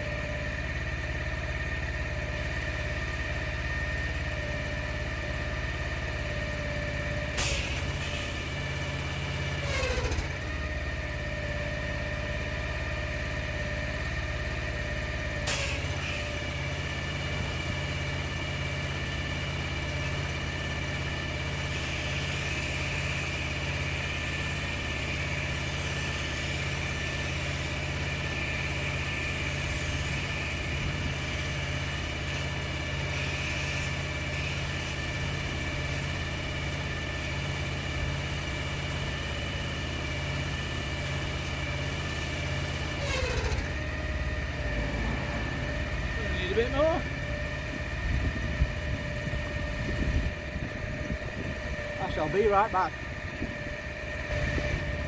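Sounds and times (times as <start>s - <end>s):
pressure washer drone and whine: 0.0s - 55.0s.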